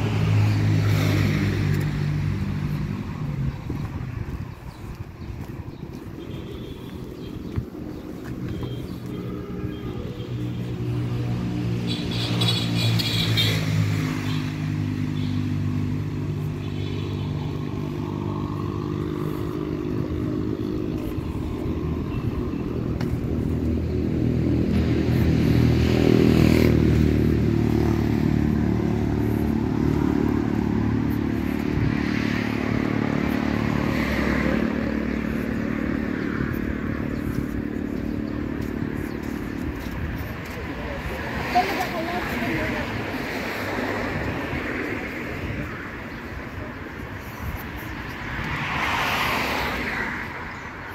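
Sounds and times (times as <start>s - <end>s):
motor vehicles passing: 0.0s - 50.9s.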